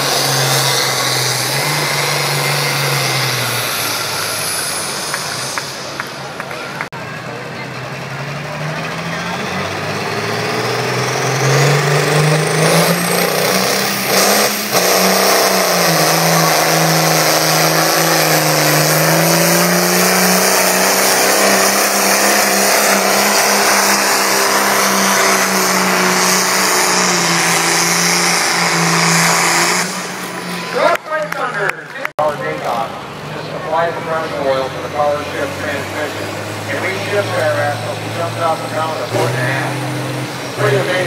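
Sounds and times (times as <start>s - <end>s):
tractor engine at full throttle: 0.0s - 41.0s.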